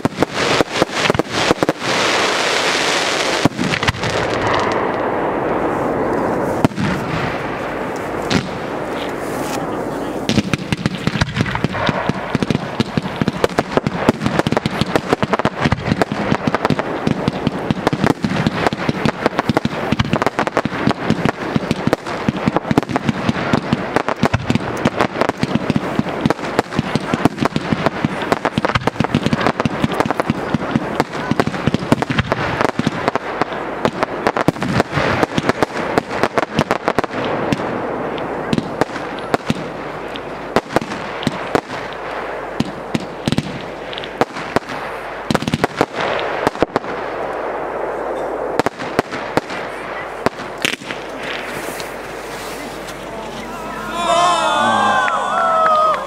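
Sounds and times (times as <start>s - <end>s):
firework volley pops: 0.0s - 5.1s, 5.8s - 47.3s, 48.6s - 53.5s.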